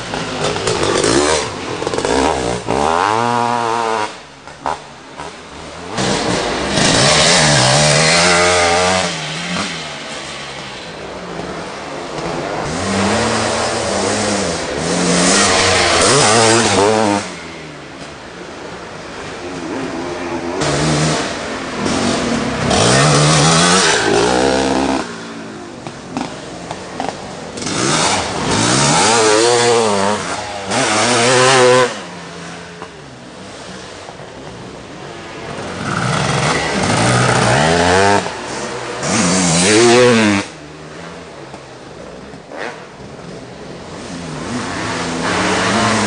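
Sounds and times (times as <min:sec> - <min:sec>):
motocross bikes revving past: 0:00.0 - 0:18.0, 0:19.1 - 0:46.0.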